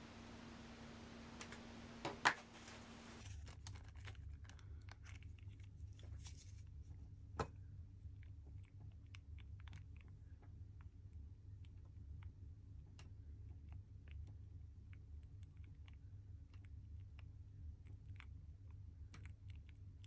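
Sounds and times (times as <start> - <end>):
small ticks and clicks: 1.3 - 6.1, 7.4 - 20.0.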